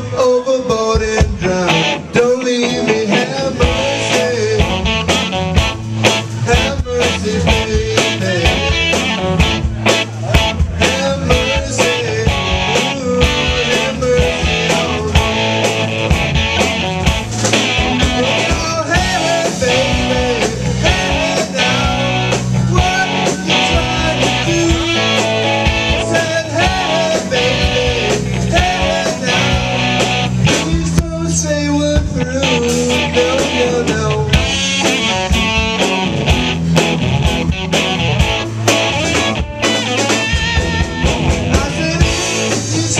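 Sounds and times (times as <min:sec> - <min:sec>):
electric guitars: 0:00.0 - 0:42.9
drum kit: 0:00.7 - 0:42.9.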